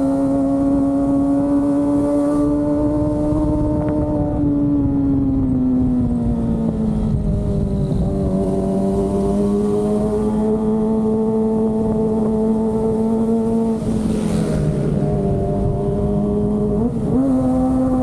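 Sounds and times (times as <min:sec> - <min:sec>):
motorcycle engine at high revs: 0:00.0 - 0:04.8, 0:05.4 - 0:18.0.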